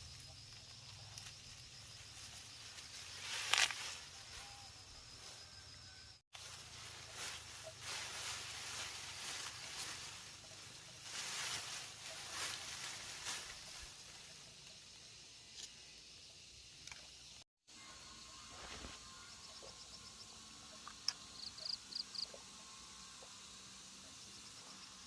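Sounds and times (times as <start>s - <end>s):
insect hiss: 0.0s - 25.0s.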